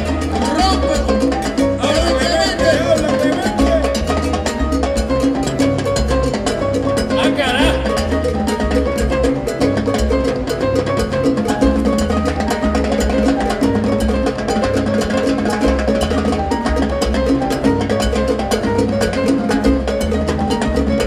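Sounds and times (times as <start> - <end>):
bass line: 0.0 - 21.0
salsa band playing: 0.0 - 21.0.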